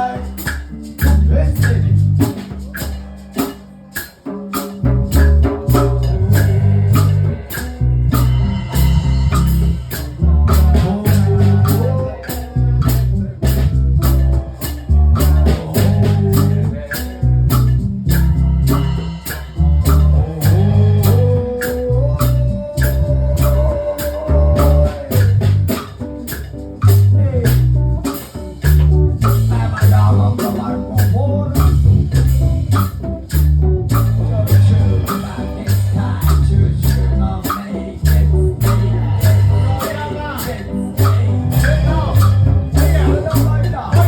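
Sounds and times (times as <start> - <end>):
live reggae band: 0.0 - 44.0.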